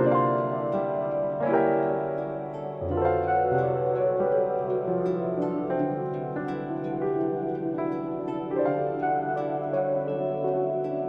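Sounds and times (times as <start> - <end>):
gentle harp-like plucked music: 0.0 - 11.0.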